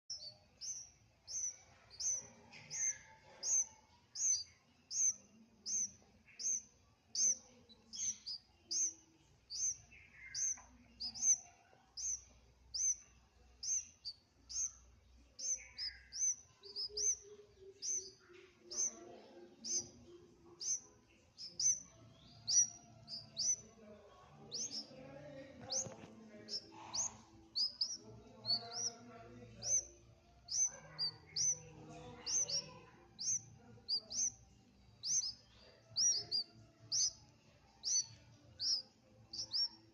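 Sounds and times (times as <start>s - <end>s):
baby bird chirping: 0.0s - 39.9s.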